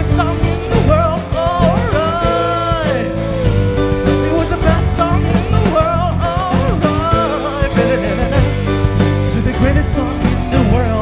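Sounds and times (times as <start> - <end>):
live rock band playing: 0.0 - 11.0
pitch-bending lead melody: 0.0 - 11.0.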